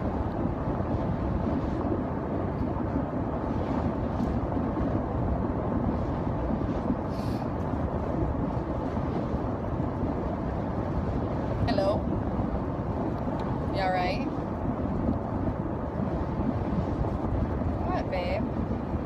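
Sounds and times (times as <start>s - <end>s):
car cabin road and engine rumble: 0.0s - 19.0s.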